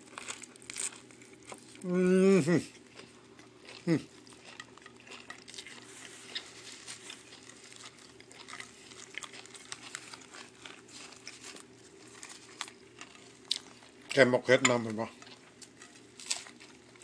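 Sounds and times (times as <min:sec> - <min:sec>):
person chewing crisp food: 0:00.0 - 0:17.0
steady low hum: 0:00.0 - 0:17.0.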